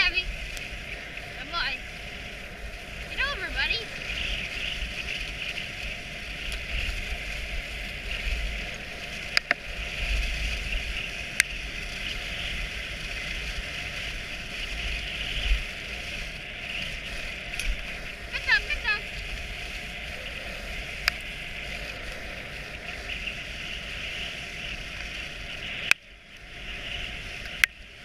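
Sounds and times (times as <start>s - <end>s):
sled runners hissing on snow: 0.0s - 28.0s.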